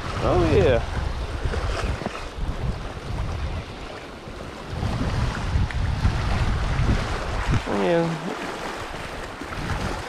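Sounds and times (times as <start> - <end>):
small waves washing shore: 0.0 - 10.0
wind buffeting microphone: 0.0 - 10.0.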